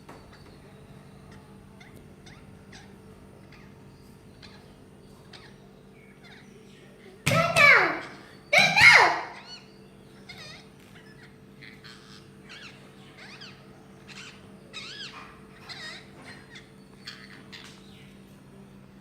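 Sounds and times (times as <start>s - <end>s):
parrot chirping faintly: 0.0s - 18.3s.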